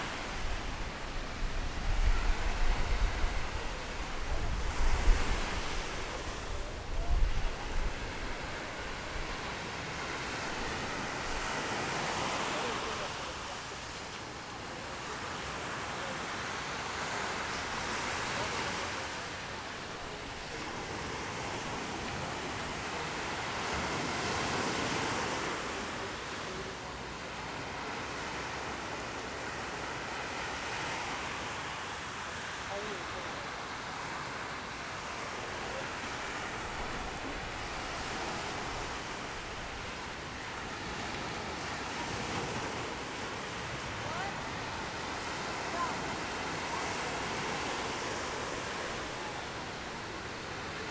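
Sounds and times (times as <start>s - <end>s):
small waves washing on sand: 0.0s - 50.9s.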